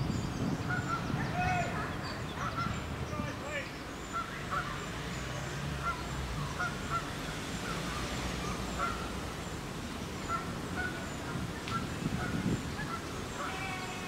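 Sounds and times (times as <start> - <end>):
water birds honking: 0.7 - 14.0.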